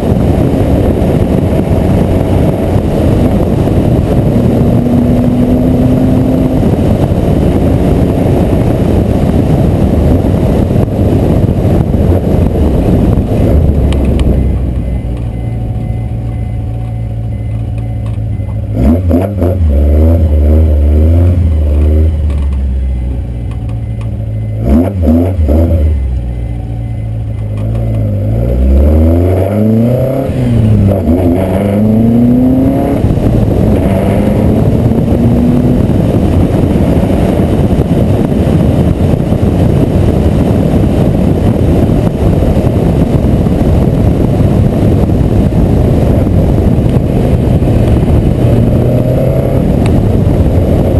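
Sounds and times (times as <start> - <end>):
engine throttle blips: 0.0 - 50.9
race car engine revving: 0.0 - 50.9.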